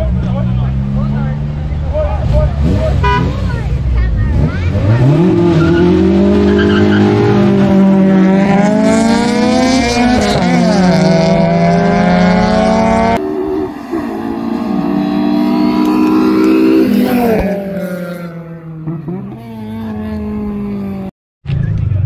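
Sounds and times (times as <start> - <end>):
race car engine accelerating: 0.0 - 21.1.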